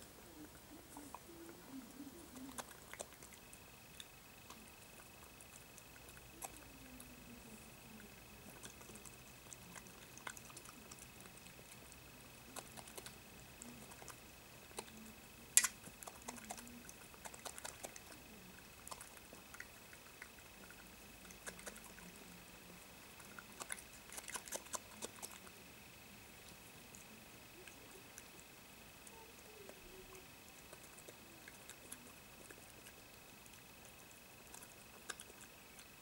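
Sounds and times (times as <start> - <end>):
badger chewing and crunching: 0.1 - 36.0.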